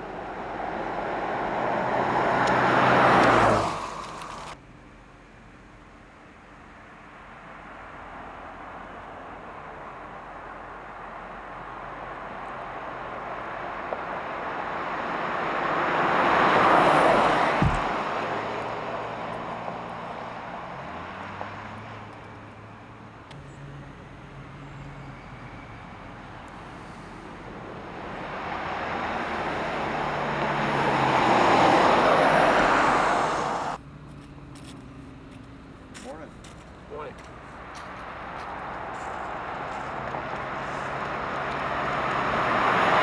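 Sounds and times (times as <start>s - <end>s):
suv driving past: 0.0s - 4.6s, 7.5s - 43.0s.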